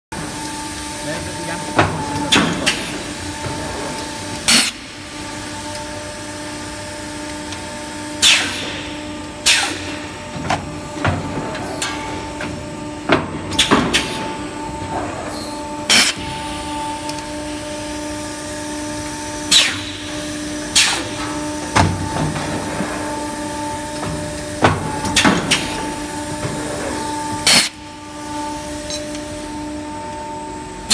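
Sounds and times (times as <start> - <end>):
machine humming: 0.1 - 30.9.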